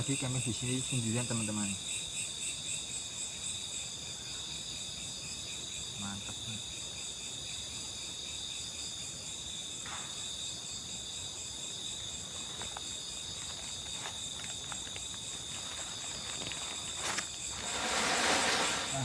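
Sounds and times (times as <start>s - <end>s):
crickets and insects trilling: 0.0s - 19.0s.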